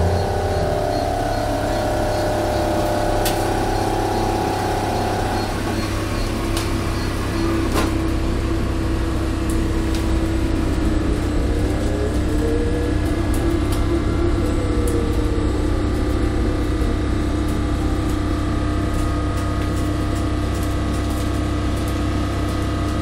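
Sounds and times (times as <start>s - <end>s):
bus engine running: 0.0s - 23.0s
road noise inside bus: 0.0s - 23.0s.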